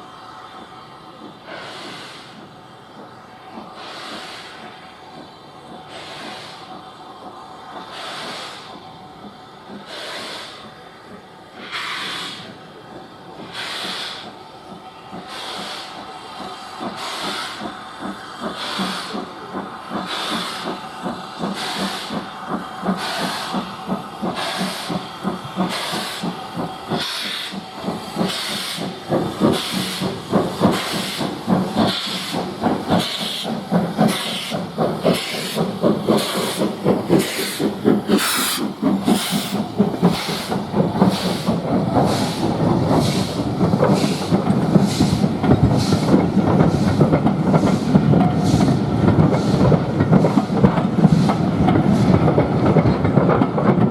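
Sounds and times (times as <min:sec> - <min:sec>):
steam locomotive chuffing: 0:00.0 - 0:53.9.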